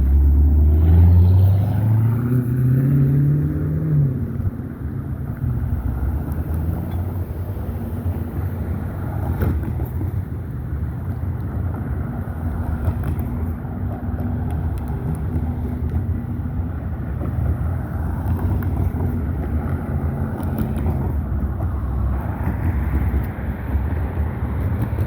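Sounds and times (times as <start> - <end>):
engine hum: 0.0 - 25.0
heavy road traffic rumble: 0.0 - 25.0.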